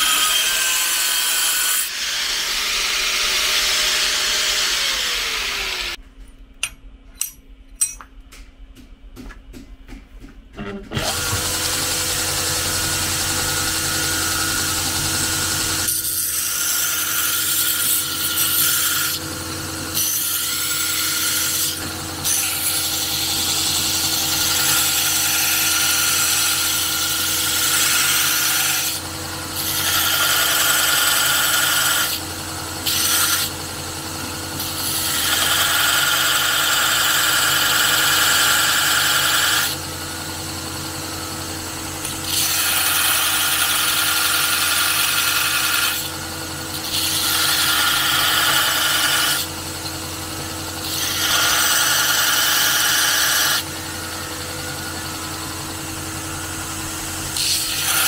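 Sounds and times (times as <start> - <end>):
electric grinder grinding steel: 0.0 - 6.0, 11.0 - 58.0.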